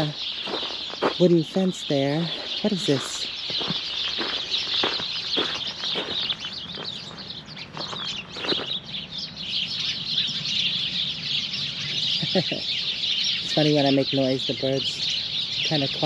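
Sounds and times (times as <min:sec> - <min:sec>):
small birds twittering: 0:00.0 - 0:16.0.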